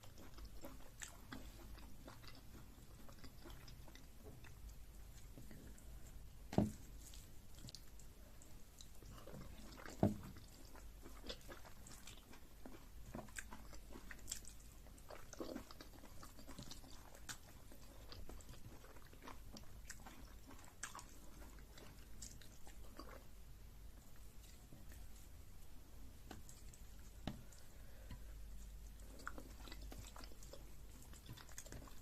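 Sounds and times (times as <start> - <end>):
person chewing and smacking: 0.0 - 32.0.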